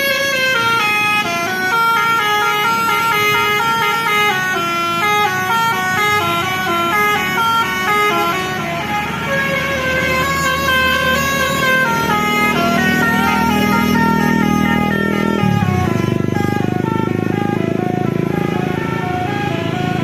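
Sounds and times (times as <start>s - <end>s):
musical bus horn playing a tune: 0.0s - 20.0s.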